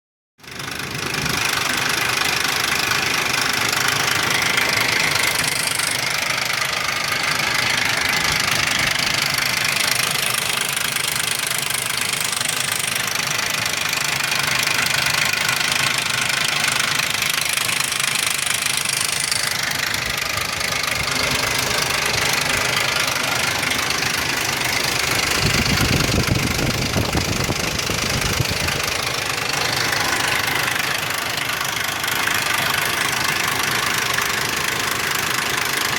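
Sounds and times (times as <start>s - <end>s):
engine running with loud rattle: 0.4s - 35.9s.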